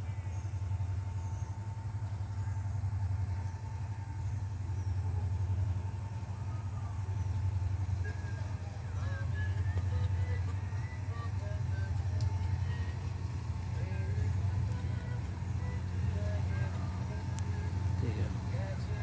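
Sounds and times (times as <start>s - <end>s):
faint steady whine: 0.0s - 19.0s
train rumbling over bridge: 0.0s - 19.0s.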